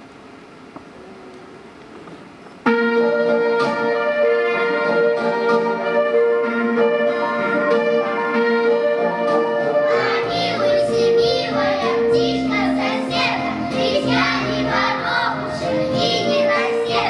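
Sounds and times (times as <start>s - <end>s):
instrumental backing track: 0.6s - 17.0s.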